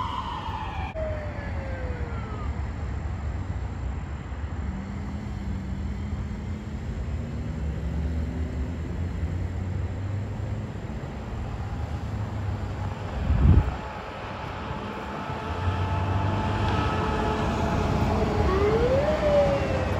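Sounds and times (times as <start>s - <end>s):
road traffic rumble: 0.0s - 19.9s
vehicle engine drone: 0.0s - 19.9s.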